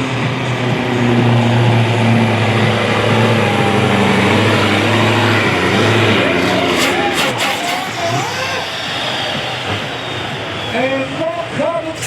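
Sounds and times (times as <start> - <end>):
diesel truck engine under load: 0.0 - 12.0.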